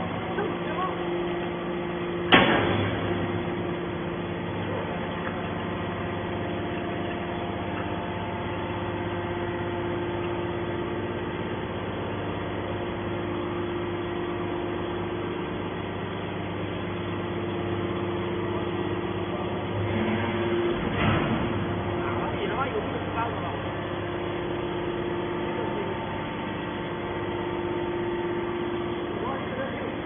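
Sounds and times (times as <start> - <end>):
hydraulic baler machine hum: 0.0 - 30.0.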